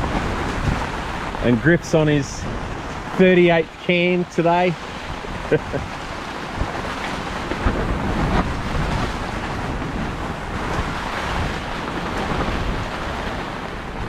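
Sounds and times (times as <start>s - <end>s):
heavy rain: 0.0s - 14.0s
storm wind: 0.0s - 14.0s
wind buffeting microphone: 0.0s - 14.0s.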